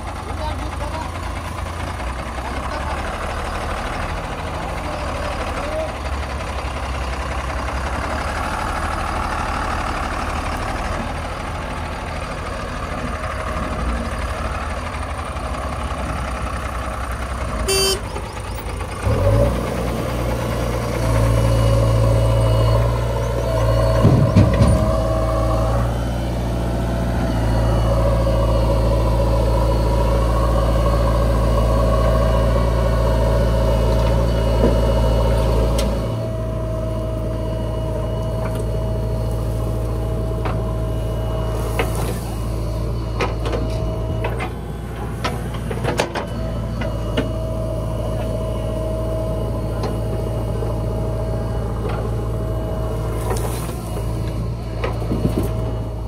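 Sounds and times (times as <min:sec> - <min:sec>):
diesel machinery droning: 0:00.0 - 0:56.0.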